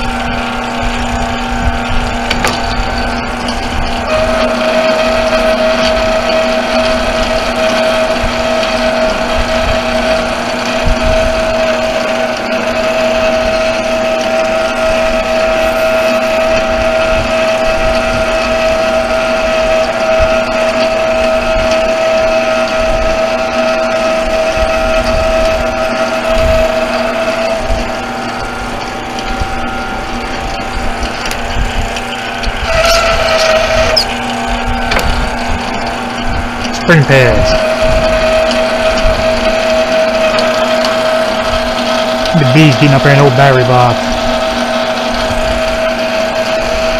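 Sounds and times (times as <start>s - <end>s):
metal lathe whining: 0.0s - 46.9s.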